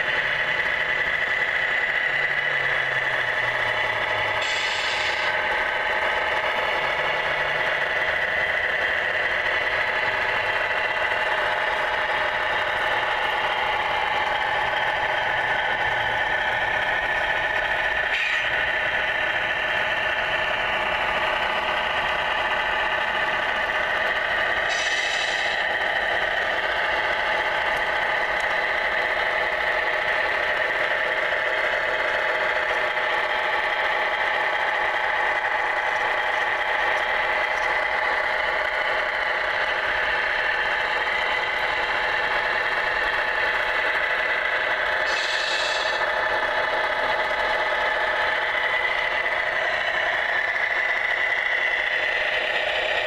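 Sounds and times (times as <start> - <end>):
toy truck engine idling: 0.0 - 53.0.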